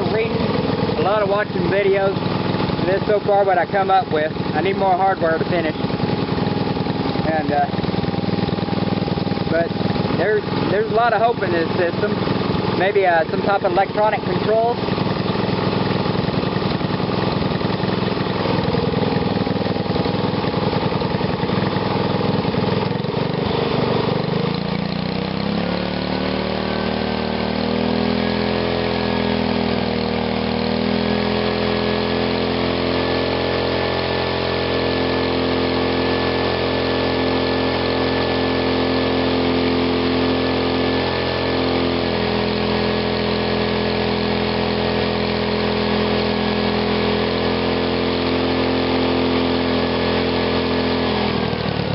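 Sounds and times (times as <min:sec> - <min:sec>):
engine running and revving: 0:00.0 - 0:51.9.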